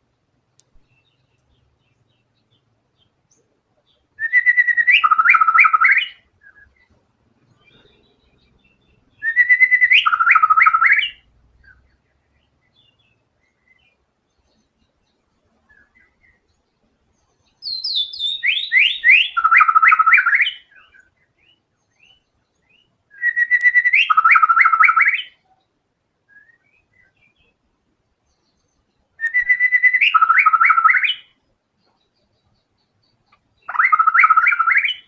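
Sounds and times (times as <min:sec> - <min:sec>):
bird singing whistled notes: 0:00.8 - 0:06.9, 0:07.5 - 0:25.6, 0:26.2 - 0:27.6, 0:28.3 - 0:35.0.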